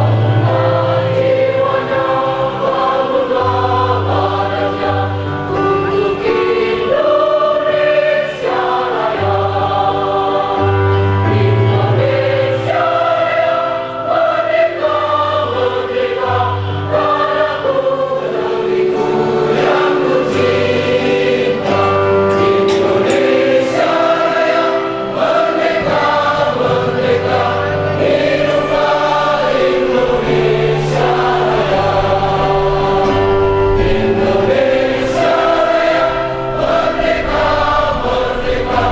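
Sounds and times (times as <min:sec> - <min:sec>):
large choir singing: 0:00.0 - 0:38.9.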